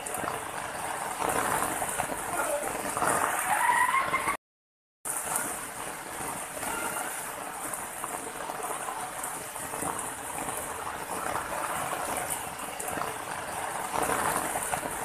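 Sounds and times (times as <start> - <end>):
water rushing over rocks: 0.0 - 4.4, 5.1 - 15.0.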